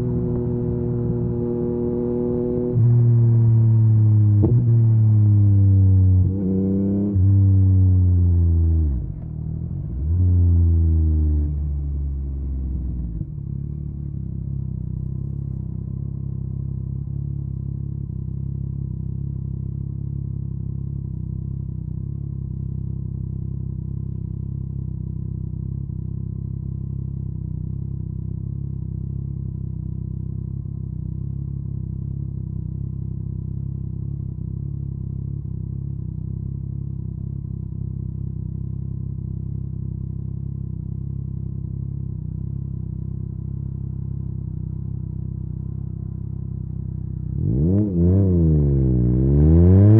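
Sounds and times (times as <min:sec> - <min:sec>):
motorcycle engine revving and idling: 0:00.0 - 0:49.9.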